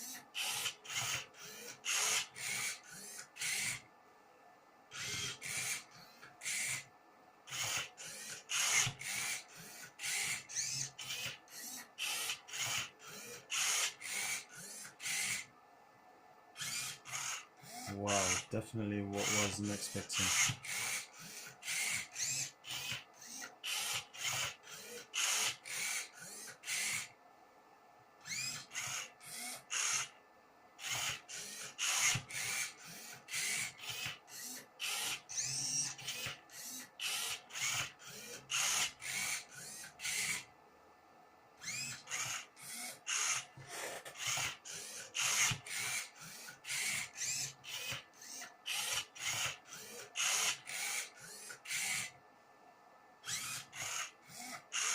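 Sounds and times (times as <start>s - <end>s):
robot motors whirring: 0.0s - 3.8s, 4.9s - 6.9s, 7.5s - 15.5s, 16.6s - 27.1s, 28.2s - 30.1s, 30.8s - 40.5s, 41.6s - 52.2s, 53.2s - 54.9s.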